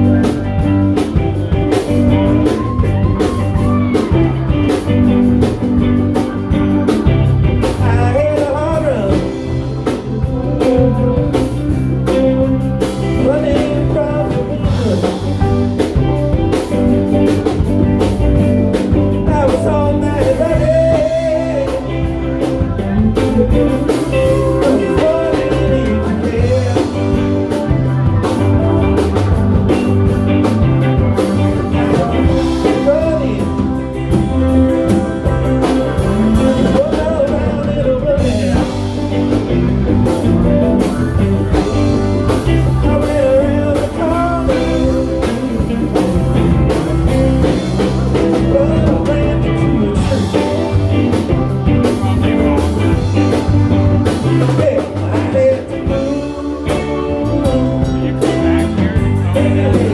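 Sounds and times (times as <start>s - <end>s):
live blues band: 0.0s - 59.9s
wavering lead melody: 0.0s - 59.9s.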